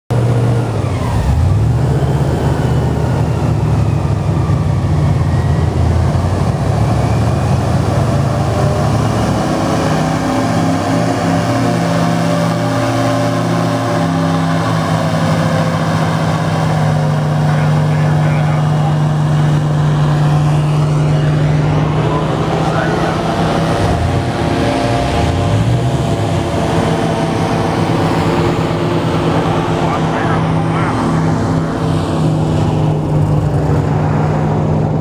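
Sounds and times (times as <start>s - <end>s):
airboat engine and propeller drone: 0.1s - 35.0s.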